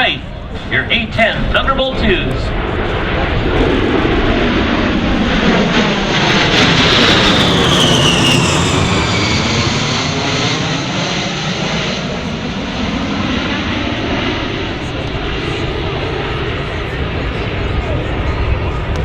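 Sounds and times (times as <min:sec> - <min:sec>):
jets flying past: 0:00.0 - 0:19.0.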